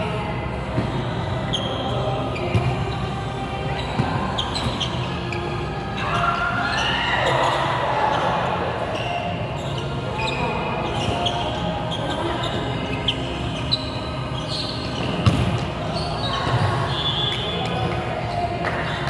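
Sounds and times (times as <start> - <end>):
sneakers squeaking on court: 0.0 - 19.0.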